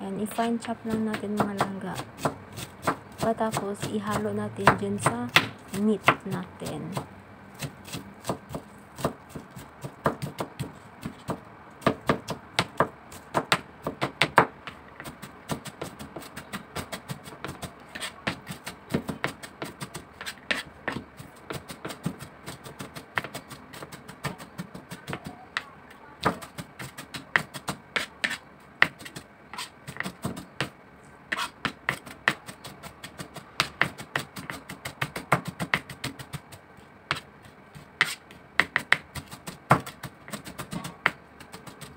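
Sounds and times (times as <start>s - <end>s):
knife chopping on plastic board: 0.5s - 41.9s.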